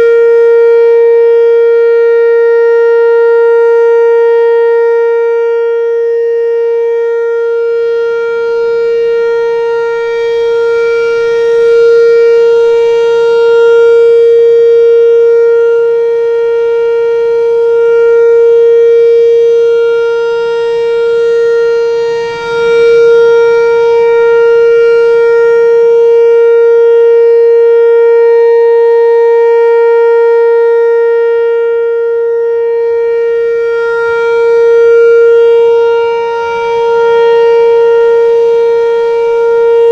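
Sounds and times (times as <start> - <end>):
electronic warning siren steady tone: 0.0 - 39.9.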